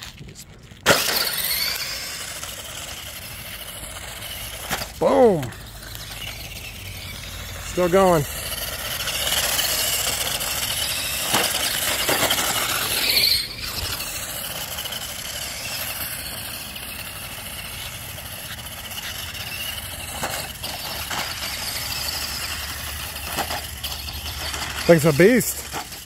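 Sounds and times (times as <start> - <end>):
toy car electric motor whining: 0.0 - 26.0.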